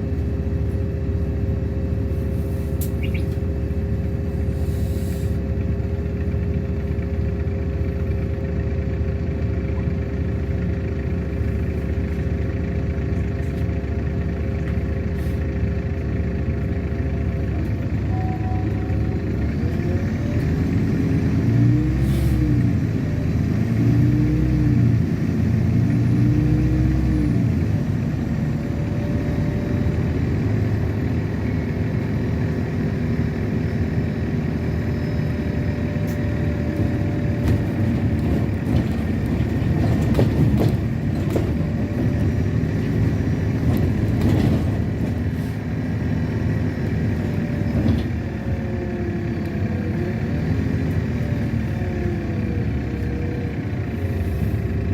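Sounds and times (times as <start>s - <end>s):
bus body rattling and clicking: 0.0s - 21.4s, 25.0s - 54.9s
bus engine and road rumble: 0.0s - 54.9s.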